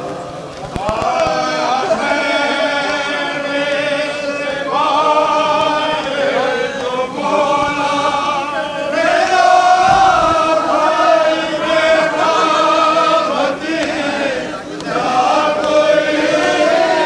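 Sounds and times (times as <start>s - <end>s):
crowd of men chanting: 0.0s - 17.0s.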